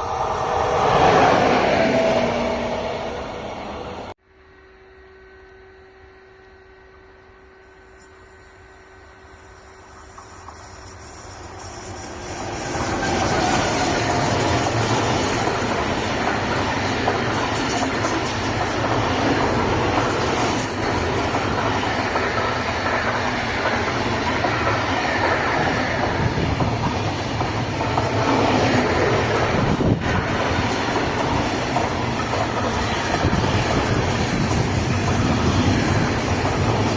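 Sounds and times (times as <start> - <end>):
train passing on tracks: 0.0 - 4.2, 6.4 - 36.9.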